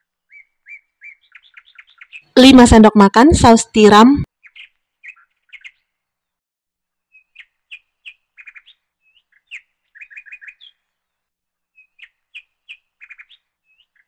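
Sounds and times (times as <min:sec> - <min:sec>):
small birds chirping faintly: 0:00.0 - 0:06.4, 0:07.0 - 0:14.0.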